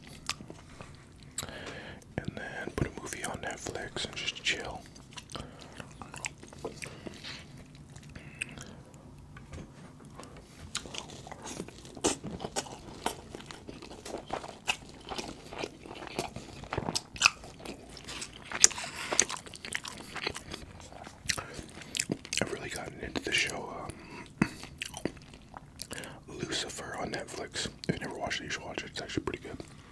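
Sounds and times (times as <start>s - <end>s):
close chewing with mouth clicks: 0.0s - 9.3s, 10.2s - 26.1s.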